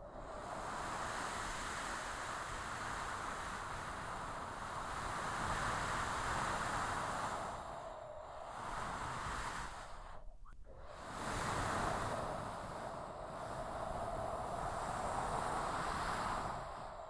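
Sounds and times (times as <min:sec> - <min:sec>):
strong gusting wind hiss: 0:00.0 - 0:17.0.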